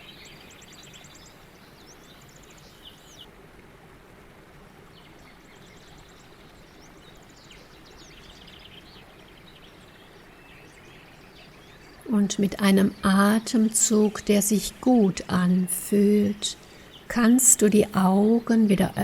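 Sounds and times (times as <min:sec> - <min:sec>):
songbirds chirping and trilling: 0:00.0 - 0:03.4, 0:04.0 - 0:19.0
steady background hiss: 0:00.0 - 0:19.0.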